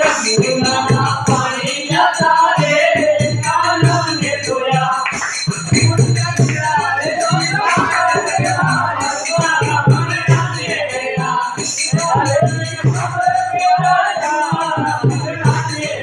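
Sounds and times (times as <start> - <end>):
hand drums: 0.0 - 16.0
jingling percussion: 0.0 - 16.0
voices singing: 0.0 - 16.0.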